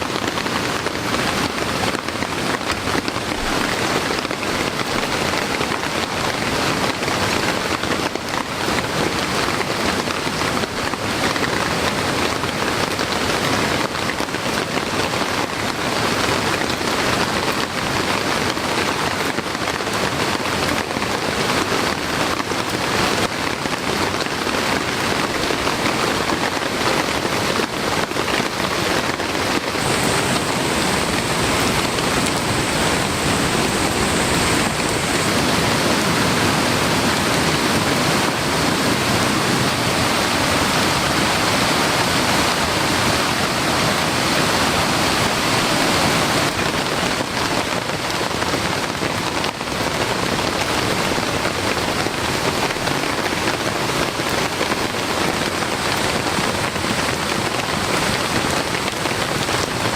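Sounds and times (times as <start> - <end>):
heavy rain: 0.0 - 59.9
mountain stream rushing: 0.0 - 59.9.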